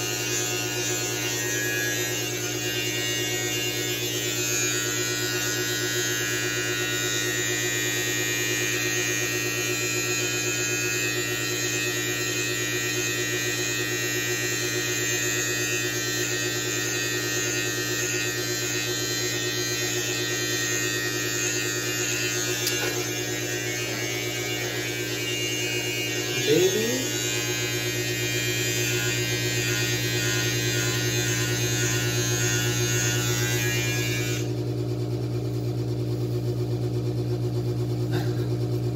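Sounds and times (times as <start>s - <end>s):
electric beard clipper buzzing: 0.0s - 35.5s, 38.1s - 38.5s.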